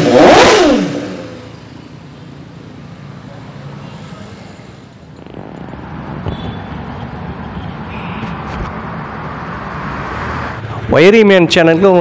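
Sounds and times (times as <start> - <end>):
road traffic with engines running: 0.0 - 12.0.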